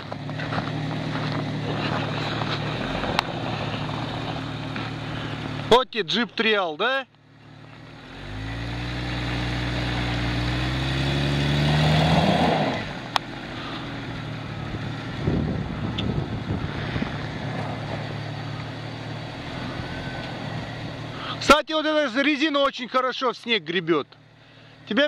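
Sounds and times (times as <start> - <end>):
car engine revving: 0.0 - 5.8, 7.3 - 21.6.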